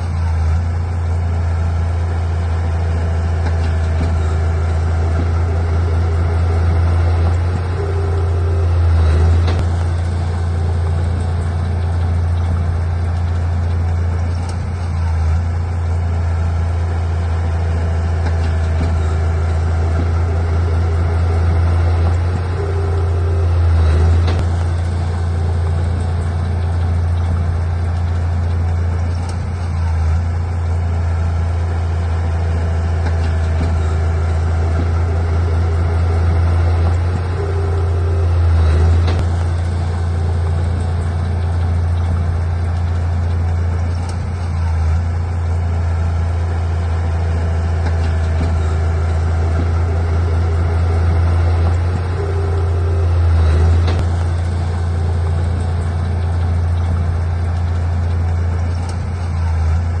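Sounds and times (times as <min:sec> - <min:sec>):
diesel engine droning: 0:00.0 - 1:00.0.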